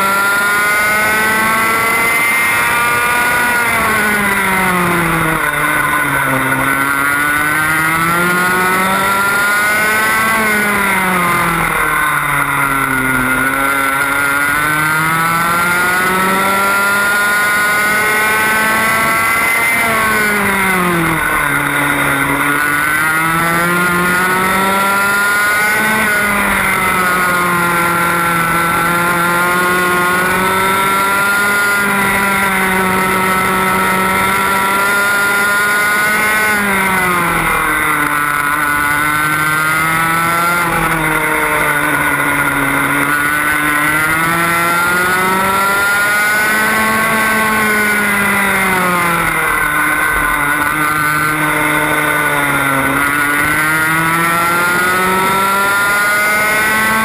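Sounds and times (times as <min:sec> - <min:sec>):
kart engine at high revs: 0:00.0 - 0:57.0.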